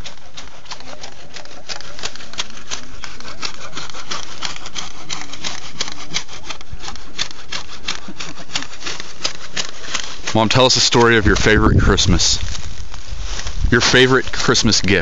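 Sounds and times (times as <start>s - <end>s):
hand saw cutting wood: 0.0s - 15.0s.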